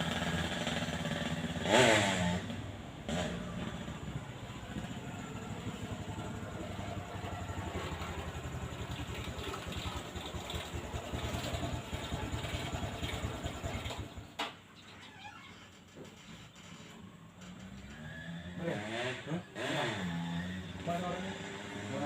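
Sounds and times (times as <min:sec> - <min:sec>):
two-stroke motorcycle engine: 0:00.0 - 0:14.7, 0:17.3 - 0:22.0.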